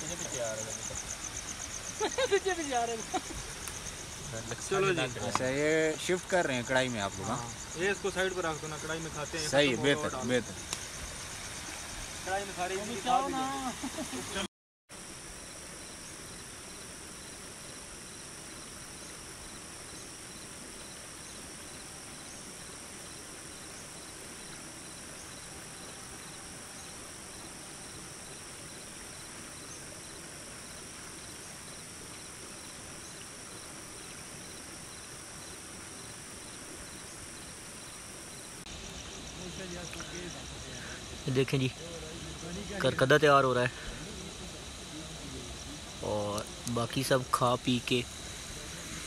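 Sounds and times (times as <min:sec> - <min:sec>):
crickets chirping: 0:00.0 - 0:49.0
even hiss: 0:00.0 - 0:49.0.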